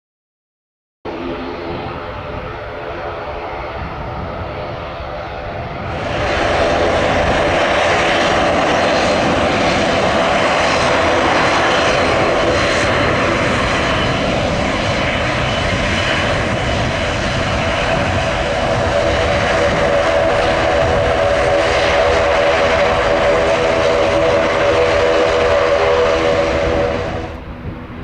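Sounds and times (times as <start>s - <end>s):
airliner engines running: 1.1s - 28.0s.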